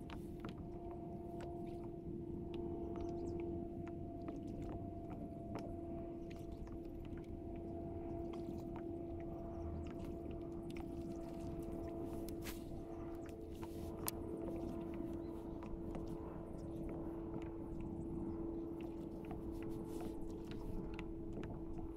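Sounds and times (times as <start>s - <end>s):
small clicks and ticks: 0.0s - 21.9s.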